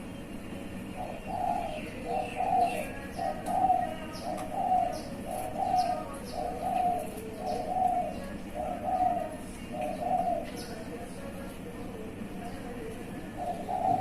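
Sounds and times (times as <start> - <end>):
doves cooing: 0.0 - 11.2, 12.5 - 14.0.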